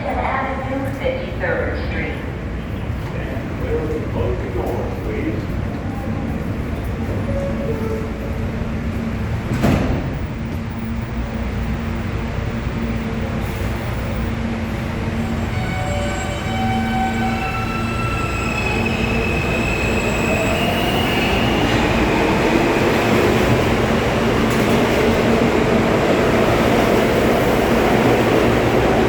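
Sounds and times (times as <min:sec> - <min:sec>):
subway train motors stepped tones: 0:00.0 - 0:29.0
train rumble: 0:00.0 - 0:29.0.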